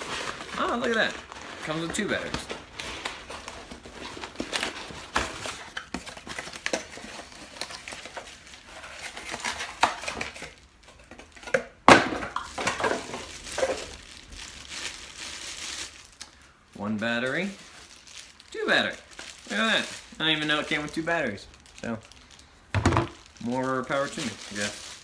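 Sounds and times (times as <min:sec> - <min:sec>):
packaging crinkling: 0:00.0 - 0:25.0.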